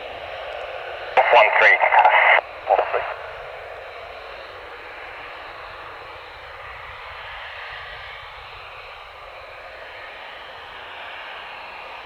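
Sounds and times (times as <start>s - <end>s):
jet engines rushing: 0.0s - 11.3s.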